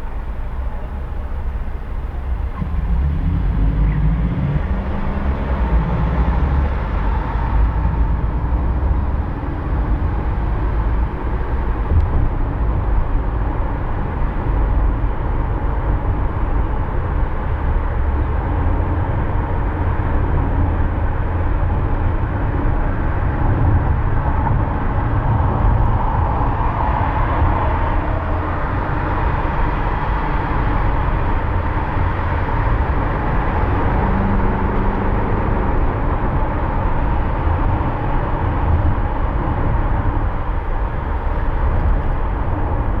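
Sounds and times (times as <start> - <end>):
car driving rumble: 0.0 - 43.0.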